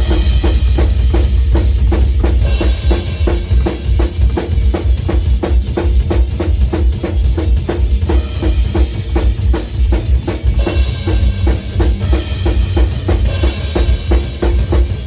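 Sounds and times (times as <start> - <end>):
drum kit metal beat: 0.0 - 15.0.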